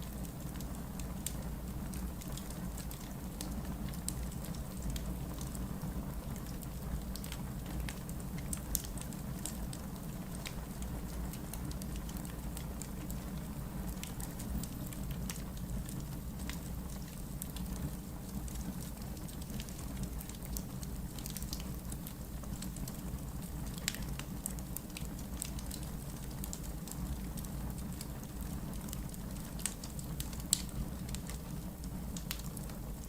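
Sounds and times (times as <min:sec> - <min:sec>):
logs crackling in fireplace: 0:00.0 - 0:33.0
low fire rumble: 0:00.0 - 0:33.0.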